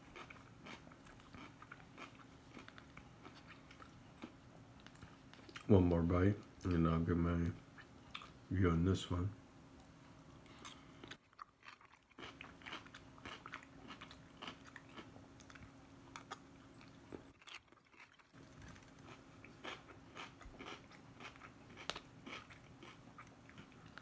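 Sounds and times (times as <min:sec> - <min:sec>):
wet chewing crunches: 0:00.0 - 0:05.7, 0:10.4 - 0:24.0.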